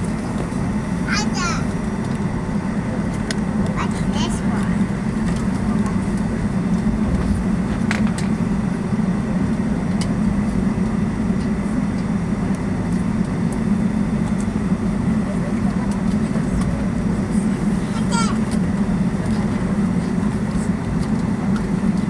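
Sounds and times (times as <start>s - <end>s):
cabin air hum: 0.0s - 22.0s
jet engines idling: 0.0s - 22.0s.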